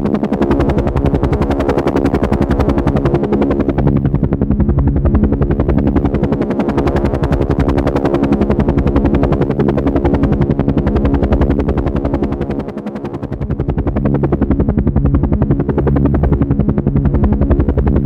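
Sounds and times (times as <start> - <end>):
helicopter engine hum: 0.0 - 18.0
helicopter rotor chopping: 0.0 - 18.0.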